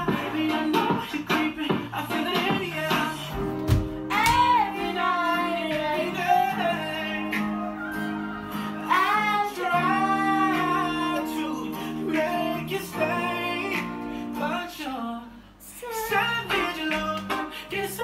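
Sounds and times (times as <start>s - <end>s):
plucked guitar: 0.0s - 14.6s
woman singing pop melody: 0.0s - 18.0s.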